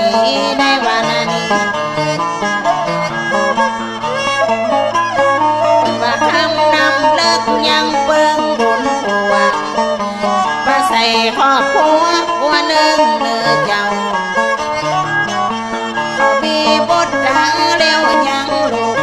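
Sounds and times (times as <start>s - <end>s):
bowed fiddle melody: 0.0s - 19.0s
plucked strings: 0.0s - 19.0s.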